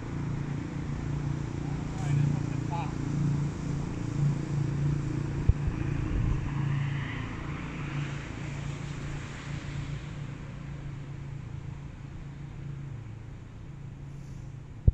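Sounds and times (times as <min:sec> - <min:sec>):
road traffic: 0:00.0 - 0:14.9.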